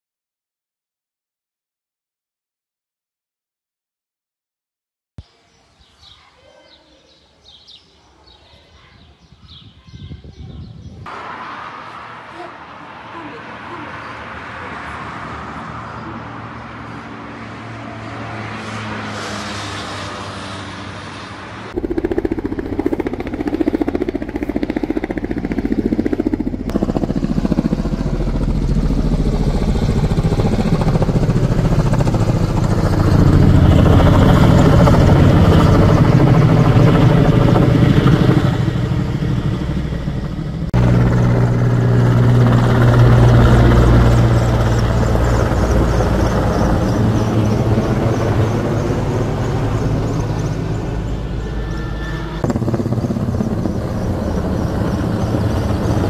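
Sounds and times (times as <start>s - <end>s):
helicopter flying low overhead: 9.6s - 56.0s.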